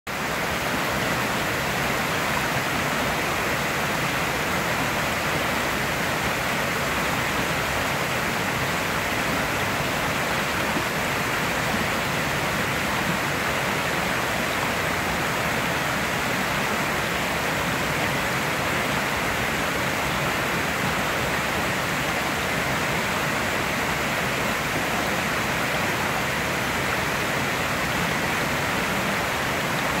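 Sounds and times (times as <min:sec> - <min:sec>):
water rushing over dam: 0:00.1 - 0:30.0.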